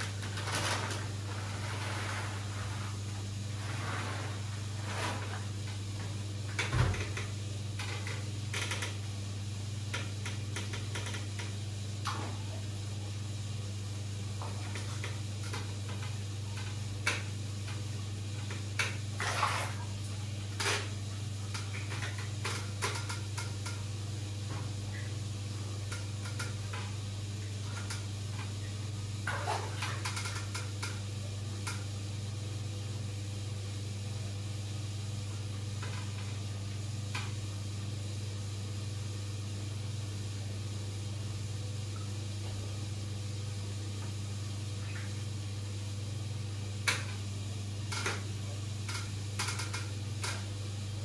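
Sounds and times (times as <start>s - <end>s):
aquarium equipment hum: 0.0s - 51.0s.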